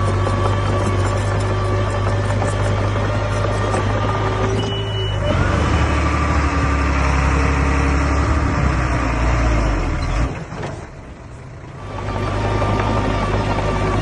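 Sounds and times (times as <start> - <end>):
bulldozer diesel engine rumbling: 0.0 - 14.0.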